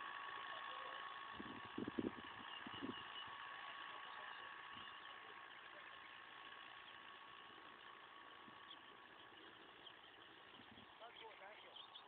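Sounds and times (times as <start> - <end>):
thin constant whine: 0.0 - 12.0
tractor engine running: 0.0 - 12.0.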